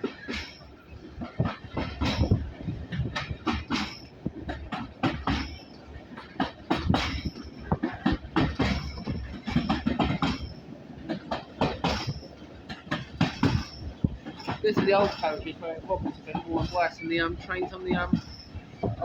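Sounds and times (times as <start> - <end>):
railway carriage rumble: 0.0 - 19.0
wheels clattering over rails: 0.0 - 19.0.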